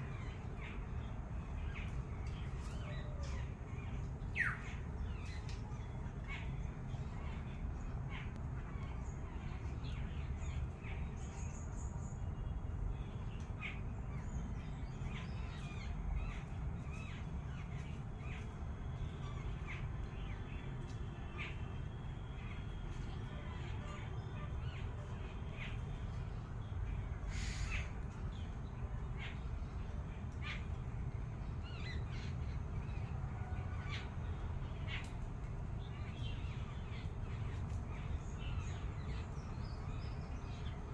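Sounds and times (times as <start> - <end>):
birds calling: 0.0 - 12.4, 13.0 - 40.9.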